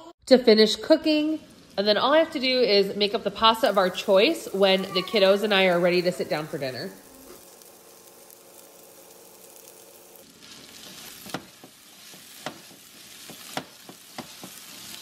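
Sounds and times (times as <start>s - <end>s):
meatballs sizzling in a pan: 0.4s - 15.0s.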